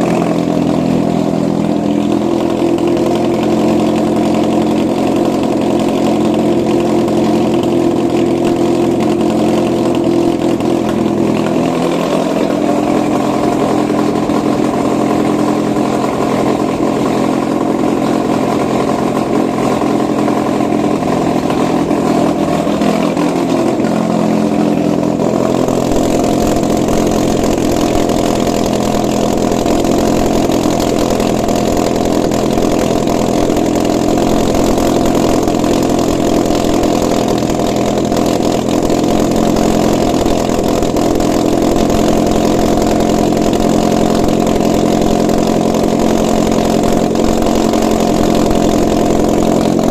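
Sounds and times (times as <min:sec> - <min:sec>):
petrol engine running: 0:00.0 - 0:49.9.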